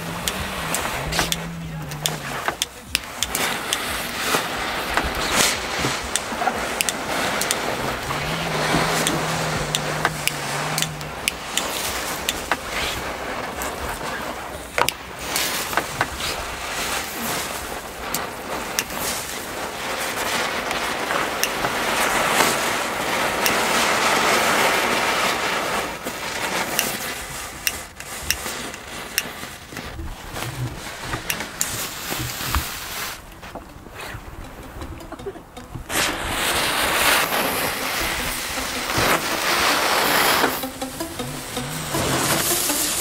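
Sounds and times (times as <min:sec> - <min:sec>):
fireworks crackling and popping: 0:00.0 - 0:43.0
fireworks hissing: 0:00.0 - 0:43.0.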